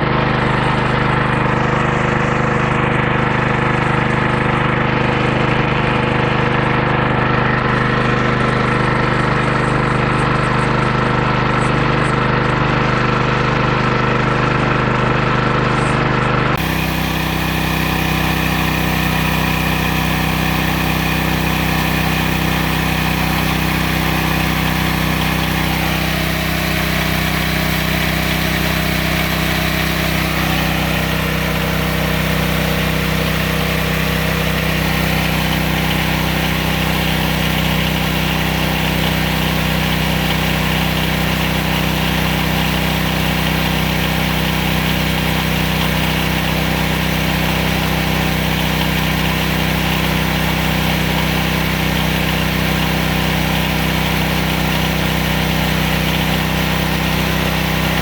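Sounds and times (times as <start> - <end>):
sawmill engine running steadily: 0.0 - 58.0.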